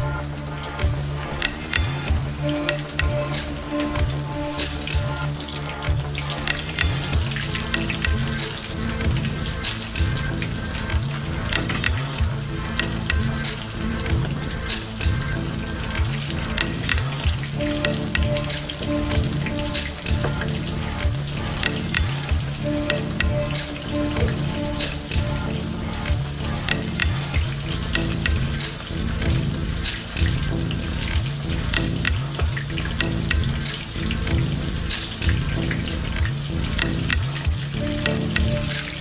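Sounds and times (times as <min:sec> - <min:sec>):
deep-frying sizzle with pops: 0:00.0 - 0:39.0.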